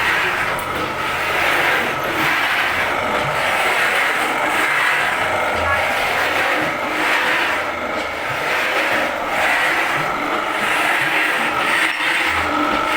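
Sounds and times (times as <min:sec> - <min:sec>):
wood-shaving machine running: 0:00.0 - 0:12.9.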